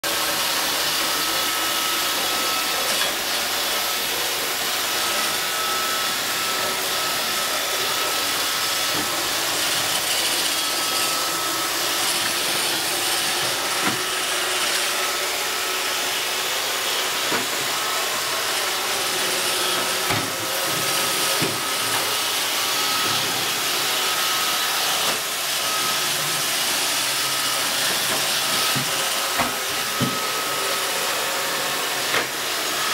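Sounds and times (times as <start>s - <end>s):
robot vacuum whirring: 0.1s - 32.9s.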